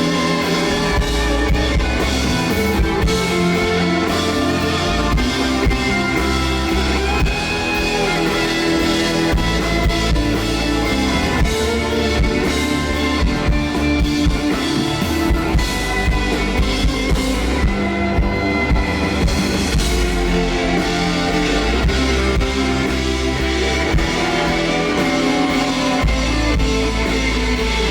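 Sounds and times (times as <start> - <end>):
rock band playing live: 0.0 - 27.9.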